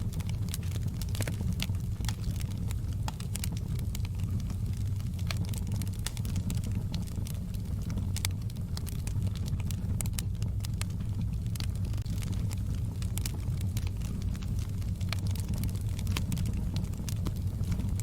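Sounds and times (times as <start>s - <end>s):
logs crackling and popping: 0.0s - 18.0s
low rumble of flames: 0.0s - 18.0s.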